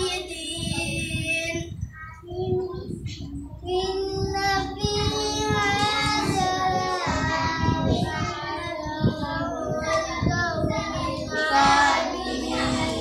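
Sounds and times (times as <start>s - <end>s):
boy chanting melodically: 0.0s - 13.0s.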